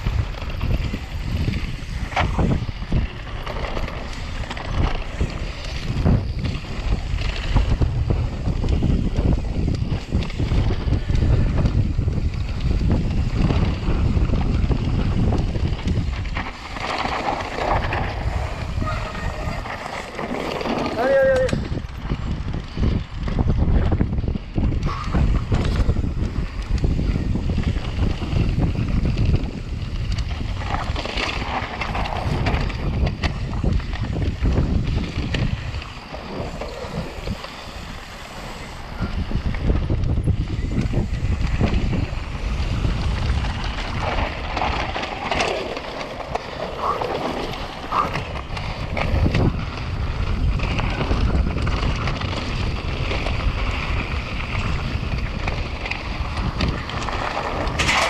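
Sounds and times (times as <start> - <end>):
mountain bike rumbling and rattling: 0.0 - 58.0
wind buffeting microphone: 0.0 - 58.0.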